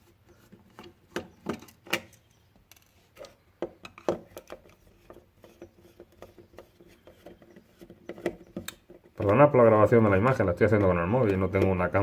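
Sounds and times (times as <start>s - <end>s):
screwdriver clicking and scraping: 0.3s - 12.0s.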